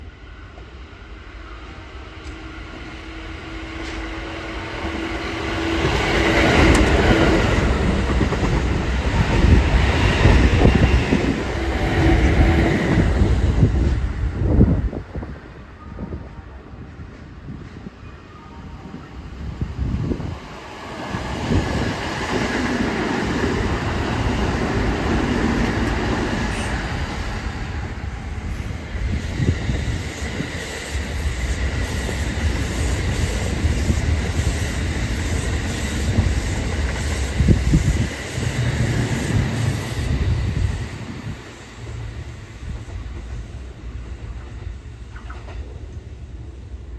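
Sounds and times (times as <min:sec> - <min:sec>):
electric train rumbling past: 0:00.0 - 0:46.9.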